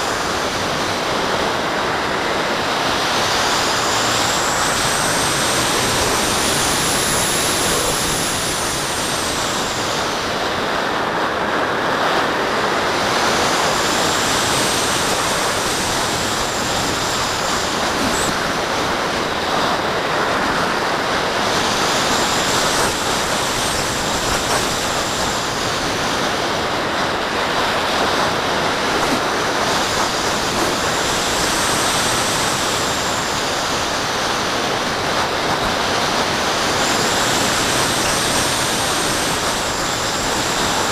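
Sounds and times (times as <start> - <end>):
airflow rushing over microphone: 0.0 - 40.9.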